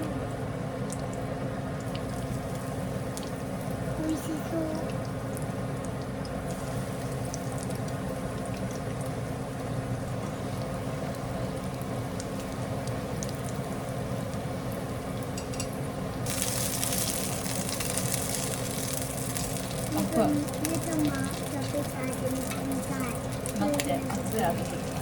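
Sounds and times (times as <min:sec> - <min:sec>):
food sizzling in hot oil: 0:00.5 - 0:25.0.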